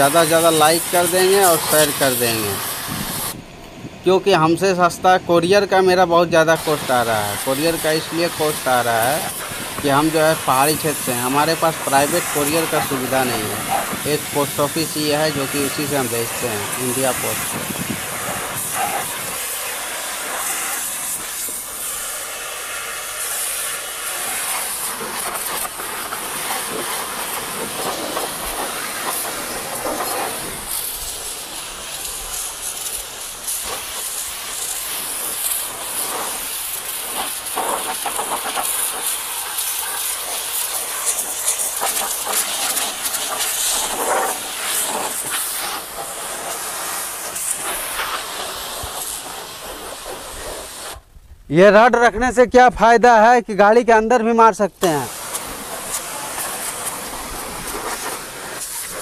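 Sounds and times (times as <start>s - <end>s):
high-pressure water jet hissing: 0.0s - 51.1s, 53.0s - 59.0s.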